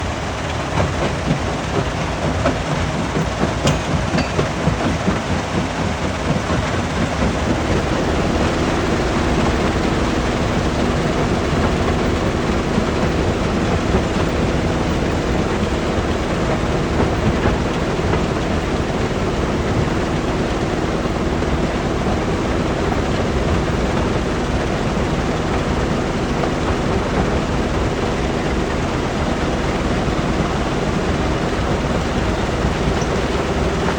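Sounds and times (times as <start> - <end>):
rock crusher rumbling clatter: 0.0 - 33.9
irregular knocks: 0.8 - 29.9.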